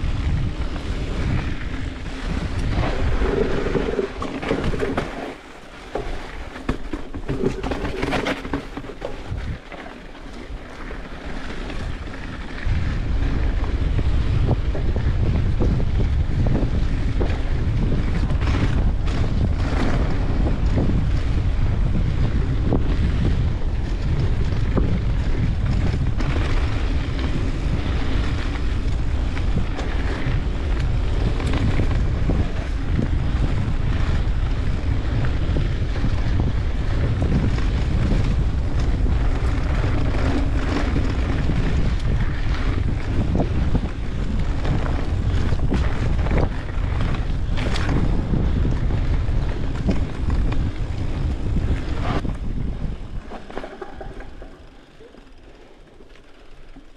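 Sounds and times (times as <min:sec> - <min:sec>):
wind buffeting microphone: 0:00.0 - 0:55.5
bike knocks and rattles: 0:00.0 - 0:56.9.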